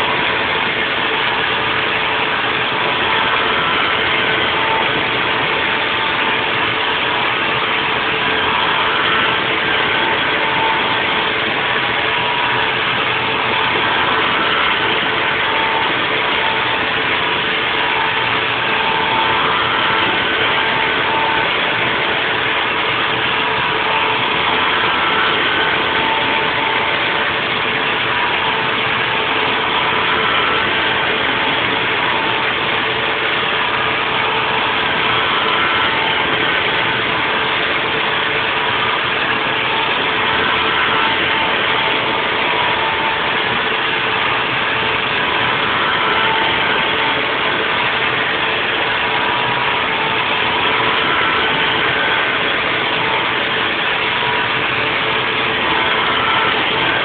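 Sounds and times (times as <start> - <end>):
high machine tones: 0.0 - 57.0
milling machine running: 0.0 - 57.0.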